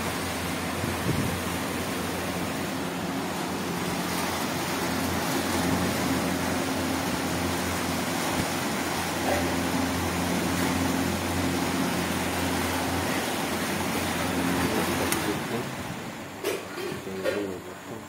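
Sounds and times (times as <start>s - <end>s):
exhaust fan rushing air: 0.0s - 18.0s.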